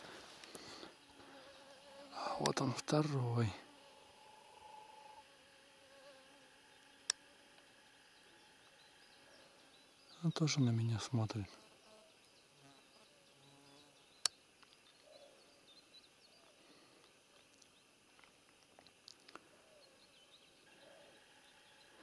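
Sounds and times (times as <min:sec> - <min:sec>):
faint bird chirps: 0:00.6 - 0:17.9, 0:19.4 - 0:22.0.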